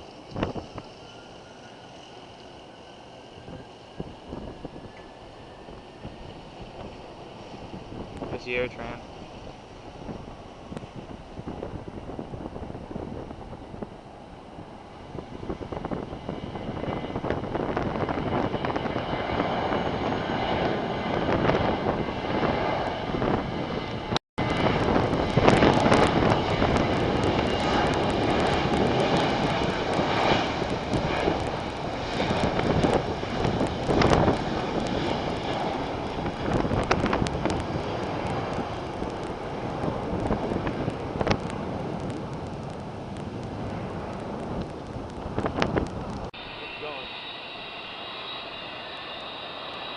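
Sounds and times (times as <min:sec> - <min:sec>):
jet engines at takeoff power: 0:00.0 - 0:49.9.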